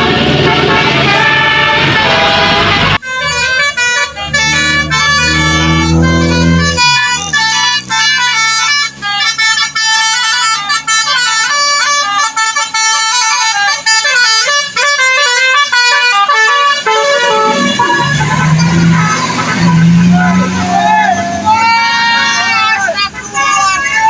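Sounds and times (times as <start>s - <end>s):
multi-tone air horn playing a tune: 0.0s - 22.8s.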